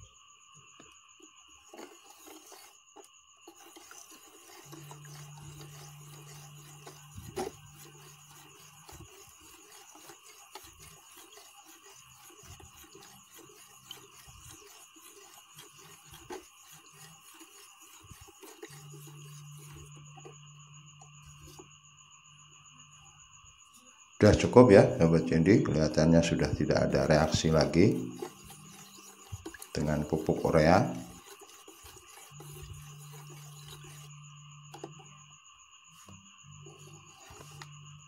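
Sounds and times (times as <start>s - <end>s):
plastic spoon scraping tub: 1.5s - 21.7s, 24.2s - 35.1s, 36.0s - 38.0s.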